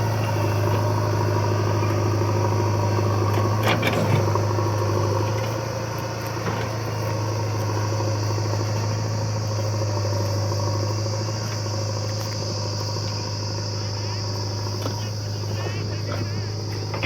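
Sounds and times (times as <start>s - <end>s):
crickets chirping: 0.0s - 17.0s
tractor diesel engine running: 0.0s - 17.0s.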